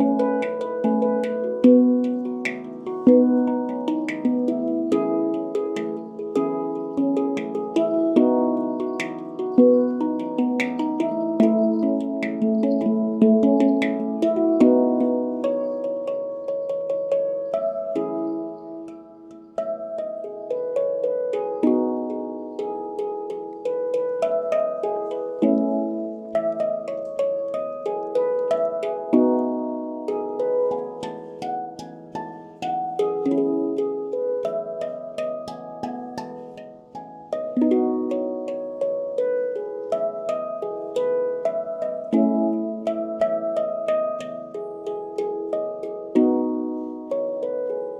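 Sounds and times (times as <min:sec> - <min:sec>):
handpan melody: 0:00.0 - 0:47.9.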